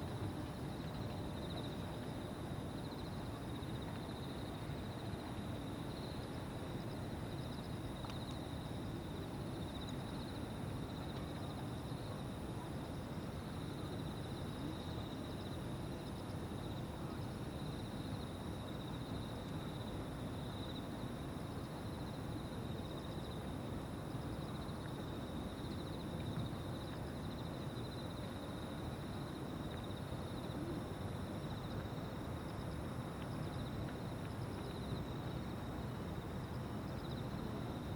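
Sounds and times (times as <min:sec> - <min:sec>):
low background noise: 0:00.0 - 0:37.9.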